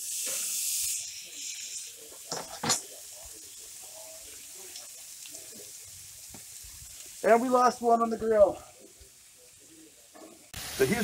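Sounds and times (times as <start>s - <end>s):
bacon sizzling in a skillet: 0.0s - 11.0s.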